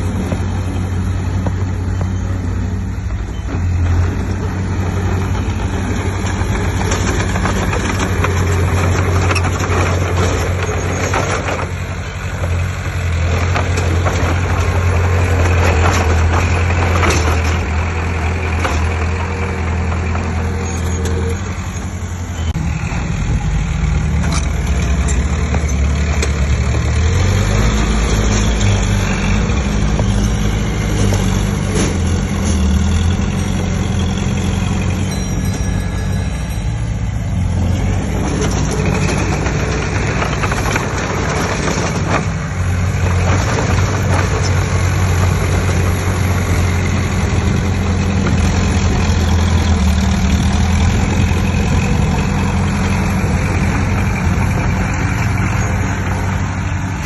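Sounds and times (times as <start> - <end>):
heavy diesel engine running: 0.0 - 57.0
knocks and scrapes: 3.5 - 22.0, 24.1 - 35.0, 37.4 - 57.0.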